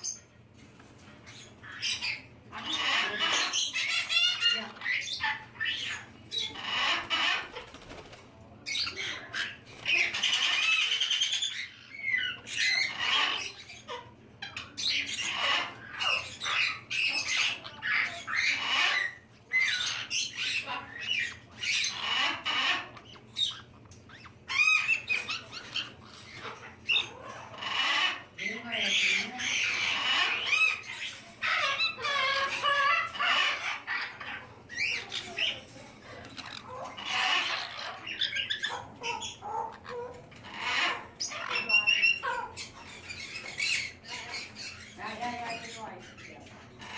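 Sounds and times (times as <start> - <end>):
parrots squawking and chattering: 0.0 - 46.9.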